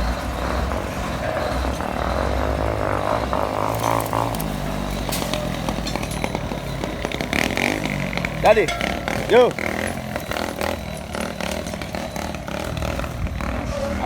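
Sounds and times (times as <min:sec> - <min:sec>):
scattered knocks: 0:00.0 - 0:13.7
heavy machinery diesel engine: 0:00.0 - 0:14.0.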